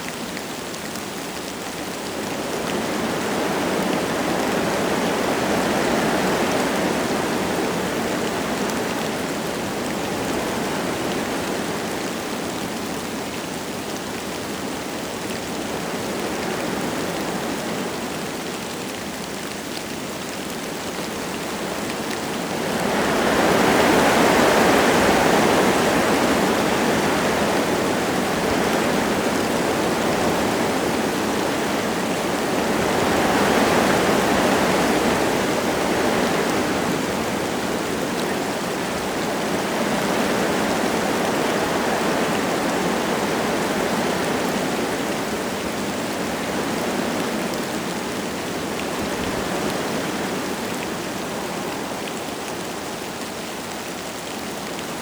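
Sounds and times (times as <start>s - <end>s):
light rain falling: 0.0s - 55.0s
wind gusting through trees: 0.0s - 55.0s.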